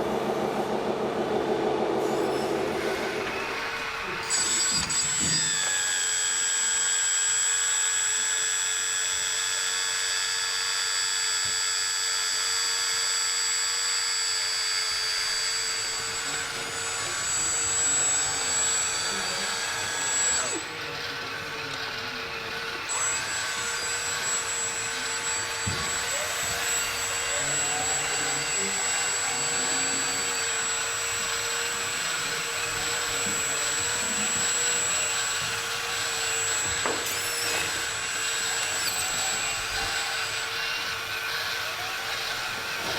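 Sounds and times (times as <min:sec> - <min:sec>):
small electric motors whining: 0:02.0 - 0:42.9.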